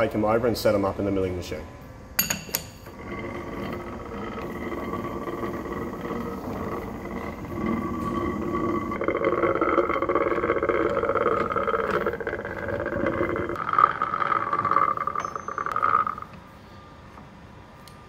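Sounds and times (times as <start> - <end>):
low hum: 1.5 - 18.0
lathe chuck whirring and rattling: 2.2 - 17.4.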